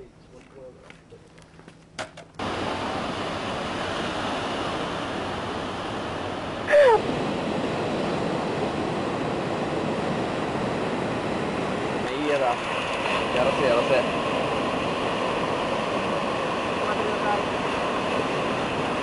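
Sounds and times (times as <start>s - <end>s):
ocean surf breaking: 2.4s - 19.0s.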